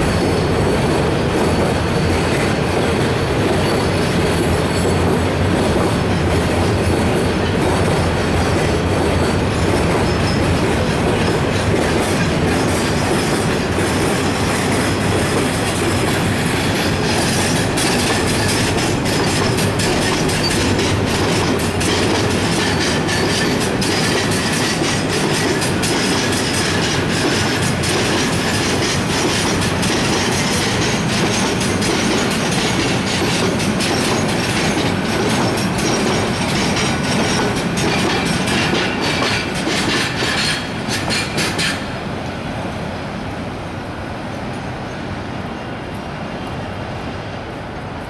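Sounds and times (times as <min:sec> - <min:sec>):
train wheels clattering over rail joints: 0:00.0 - 0:42.4
train rumble: 0:00.0 - 0:48.0.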